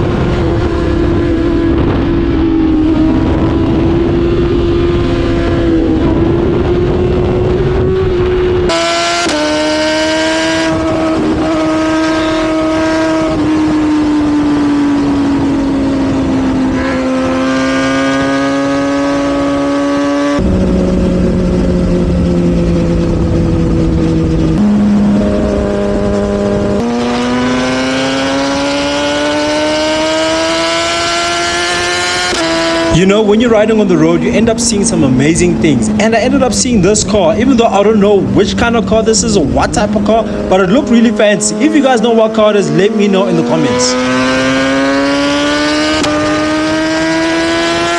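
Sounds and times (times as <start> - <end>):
low wind rush: 0.0 - 47.9
motorcycle engine revving high: 0.0 - 47.9.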